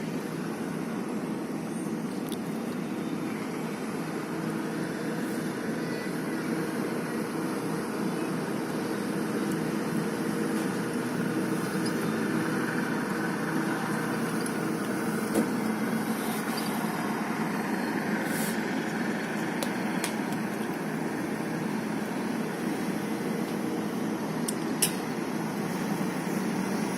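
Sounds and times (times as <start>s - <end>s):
heavy engine idling: 0.0s - 26.9s.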